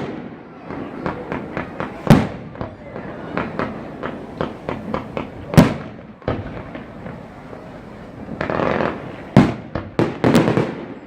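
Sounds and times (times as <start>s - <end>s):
fireworks bang: 0.0s - 7.6s, 8.2s - 11.0s
fireworks cracking: 0.0s - 11.0s
fireworks crackling burst: 0.0s - 11.0s.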